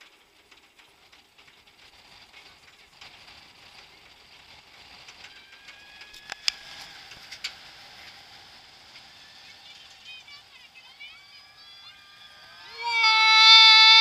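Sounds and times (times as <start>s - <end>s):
roller coaster climbing lift hill: 0.0s - 14.0s.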